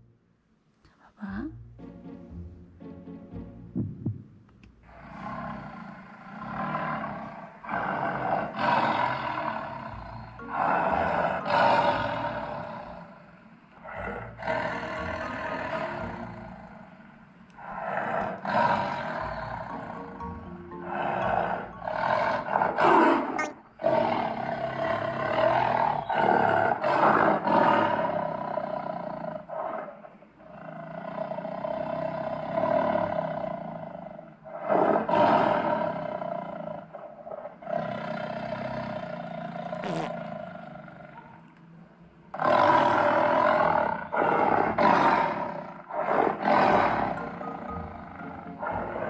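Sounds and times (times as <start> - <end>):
tiger roars and growls: 4.8 - 41.4, 42.3 - 49.0.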